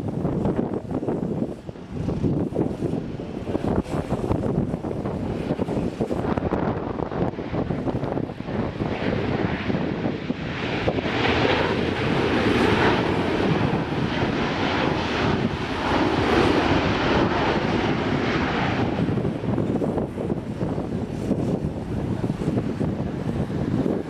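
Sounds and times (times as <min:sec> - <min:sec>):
jet aircraft engines rushing: 0:00.0 - 0:24.0.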